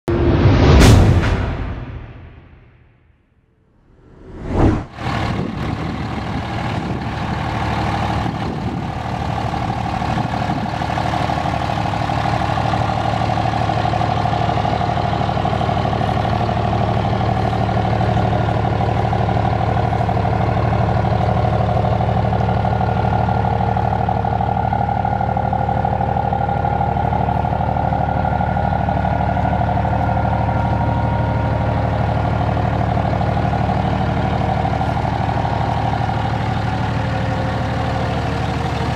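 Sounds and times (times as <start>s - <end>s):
diesel pickup engine idling: 5.0s - 38.9s.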